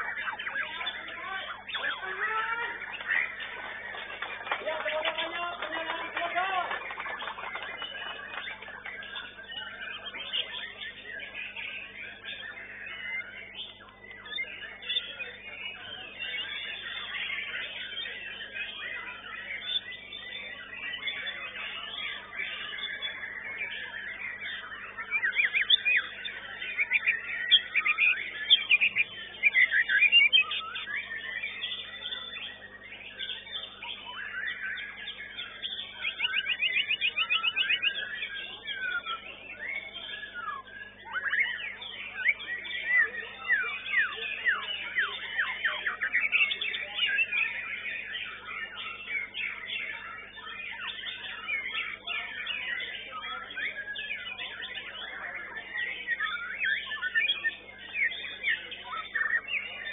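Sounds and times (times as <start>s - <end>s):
fast rattling bird trill: 0.0s - 59.9s
songbirds whistling and trilling: 0.0s - 59.9s.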